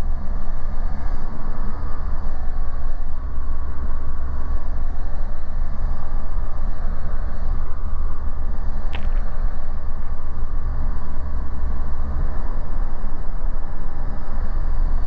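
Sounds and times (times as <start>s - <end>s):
aircraft piston engine and propeller: 0.0s - 15.0s.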